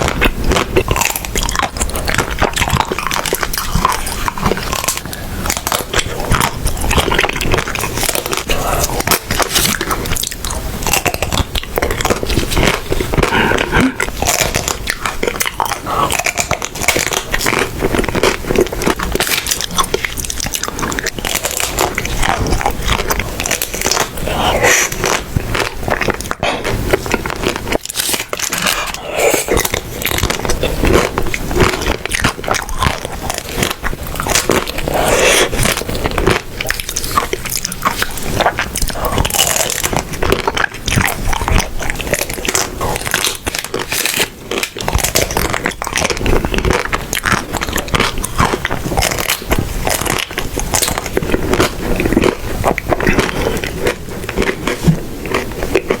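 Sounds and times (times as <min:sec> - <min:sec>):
crunchy bites and chewing: 0:00.0 - 0:56.0.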